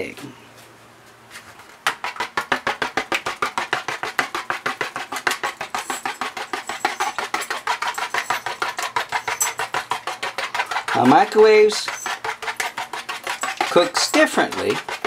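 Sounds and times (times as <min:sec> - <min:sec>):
fork whisking egg in bowl: 0:01.9 - 0:15.0.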